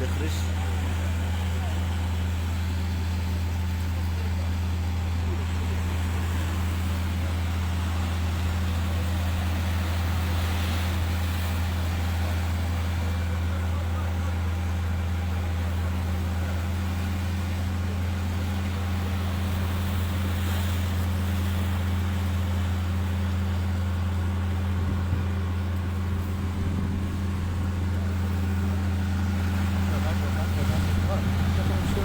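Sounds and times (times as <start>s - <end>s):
large engine humming: 0.0s - 32.0s.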